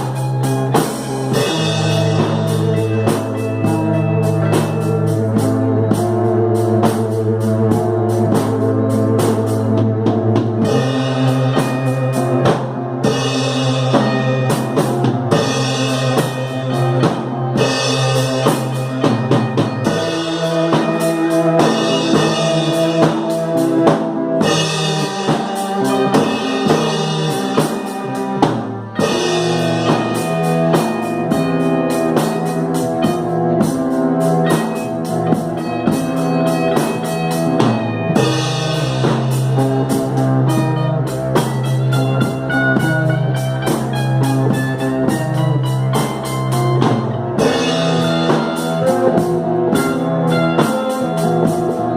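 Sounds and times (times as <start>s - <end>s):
drum kit beat: 0.0s - 51.9s
electric guitar chords: 0.0s - 51.9s
synthesizer chords: 0.0s - 51.9s.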